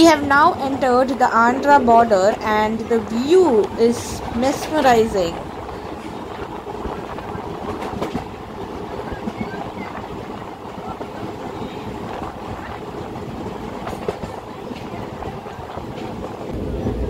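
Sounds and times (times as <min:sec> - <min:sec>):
train coach rumble and rattle: 0:00.0 - 0:17.0.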